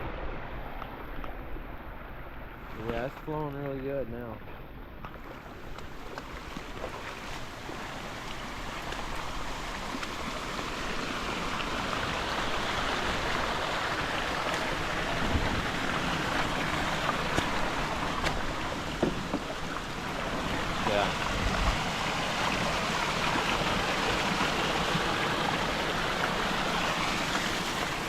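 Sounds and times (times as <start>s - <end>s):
creek rushing in flood: 5.1s - 28.0s.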